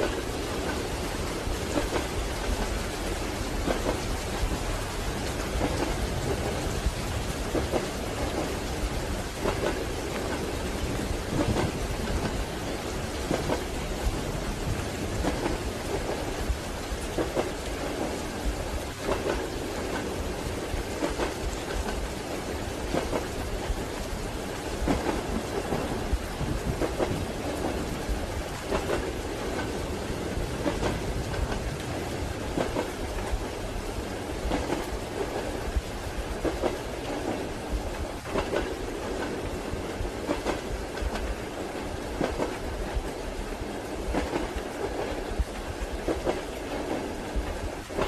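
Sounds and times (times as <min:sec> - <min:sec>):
soft rain falling: 0:00.0 - 0:48.0
train wheels clacking on rails: 0:00.0 - 0:48.0.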